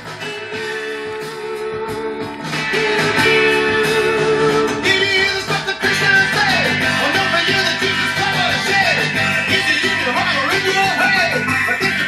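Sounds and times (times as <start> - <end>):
guitar music from vinyl record: 0.0 - 12.0.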